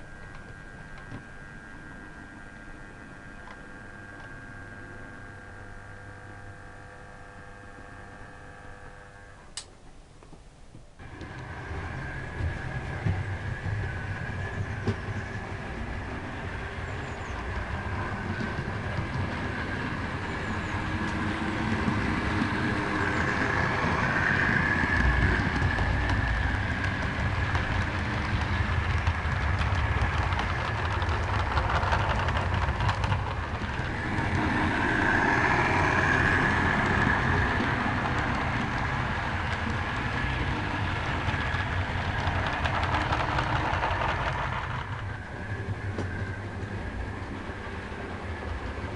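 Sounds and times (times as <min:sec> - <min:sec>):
model locomotive rumbling: 0:00.0 - 0:06.8, 0:11.0 - 0:48.9
motor whine: 0:00.0 - 0:09.8, 0:10.9 - 0:48.9.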